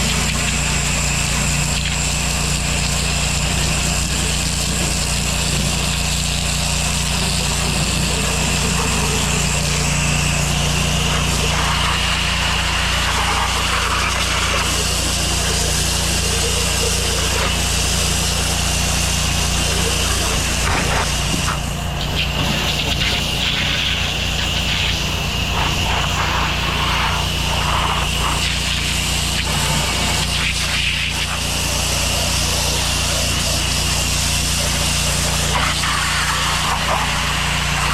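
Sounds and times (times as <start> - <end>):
high whine: 0.0 - 37.9
pressure washer engine running: 0.0 - 37.9
water jet hissing: 0.0 - 37.9.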